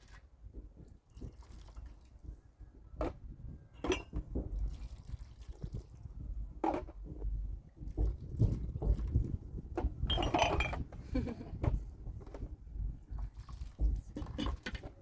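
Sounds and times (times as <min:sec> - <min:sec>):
water sloshing and dripping: 0:00.0 - 0:11.0, 0:11.7 - 0:15.0.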